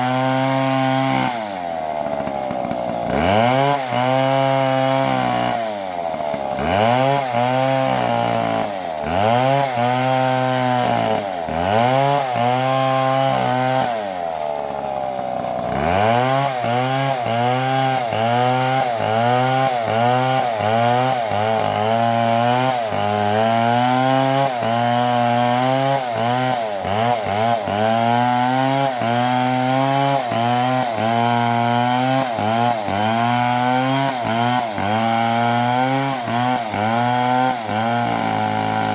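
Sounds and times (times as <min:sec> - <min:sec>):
chainsaw cutting: 0:00.0 - 0:38.9.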